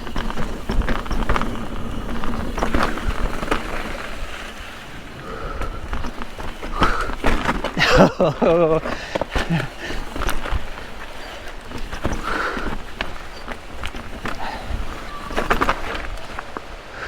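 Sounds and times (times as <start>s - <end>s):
bike rattling and clattering: 0.0s - 17.0s
bike tyres crunching on rocks: 0.0s - 17.0s.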